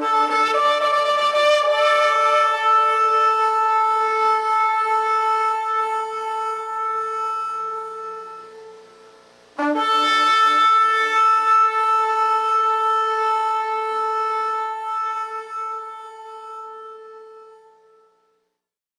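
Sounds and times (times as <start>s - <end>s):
trumpet-like horn blast: 0.0s - 18.4s.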